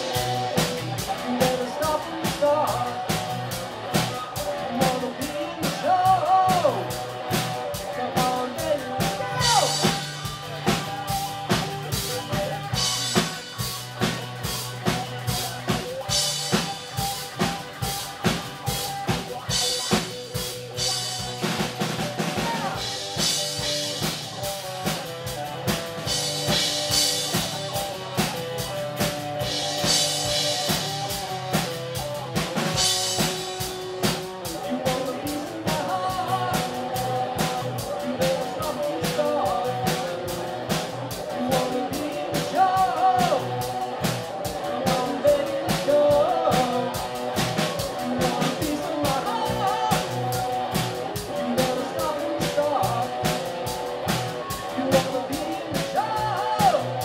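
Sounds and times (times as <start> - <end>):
drum kit beat: 0.0 - 57.0
electric and acoustic guitars: 0.0 - 57.0.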